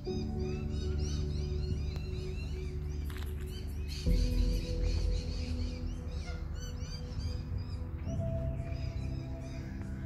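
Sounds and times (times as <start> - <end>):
bird chirps: 0.0 - 10.0
music with held notes: 0.0 - 10.0.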